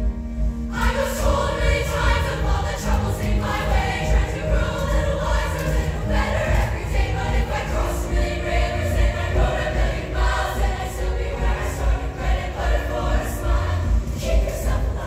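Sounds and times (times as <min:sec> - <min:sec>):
bass: 0:00.0 - 0:15.0
choir singing in harmony: 0:00.0 - 0:15.0.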